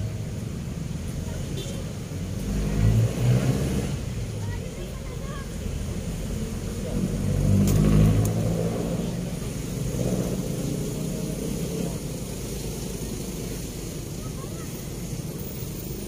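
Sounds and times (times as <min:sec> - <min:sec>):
low drone of traffic: 0:00.0 - 0:16.0
passing vehicle engine: 0:00.0 - 0:16.0.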